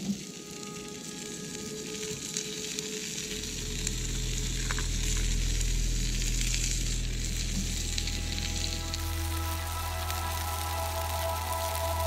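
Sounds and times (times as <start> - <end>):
wood fire crackling: 0.0 - 12.0
patties sizzling in a frying pan: 0.3 - 12.0
low steady hum: 1.0 - 12.0.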